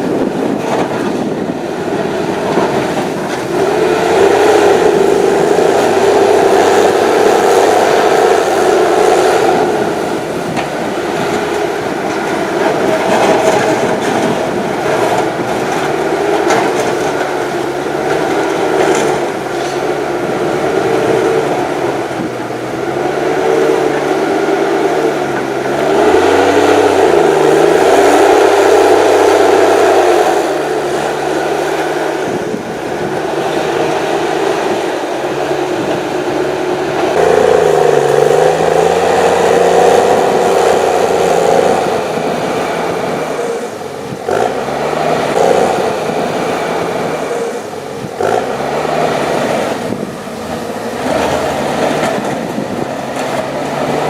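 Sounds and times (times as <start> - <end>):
diesel engine revving under load: 0.0 - 54.0.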